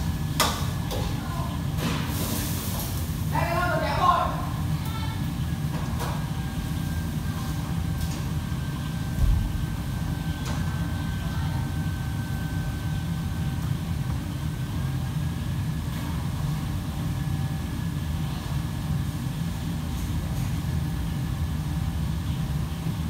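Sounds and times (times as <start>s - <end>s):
faint steady whine: 0.0s - 23.0s.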